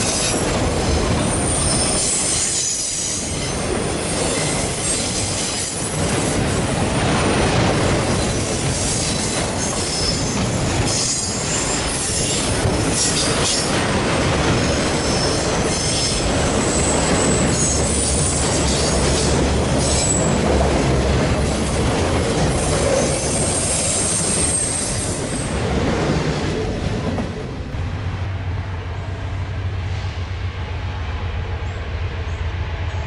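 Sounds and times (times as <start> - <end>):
freight train cars rumbling: 0.0 - 33.0.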